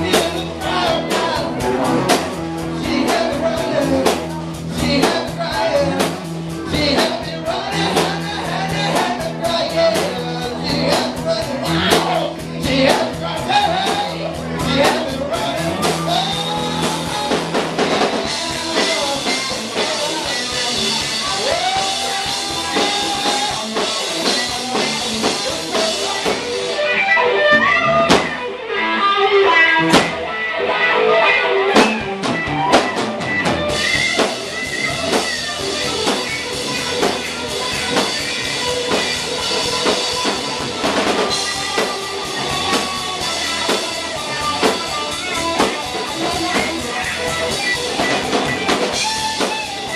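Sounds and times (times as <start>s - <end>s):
electric guitar: 0.0s - 49.9s
live rock band playing: 0.0s - 49.9s.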